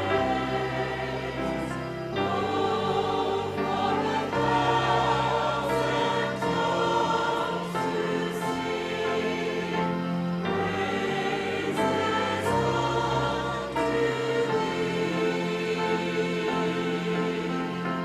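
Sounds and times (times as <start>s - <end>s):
choir singing a hymn: 0.0s - 18.0s
instrumental accompaniment: 0.0s - 18.0s.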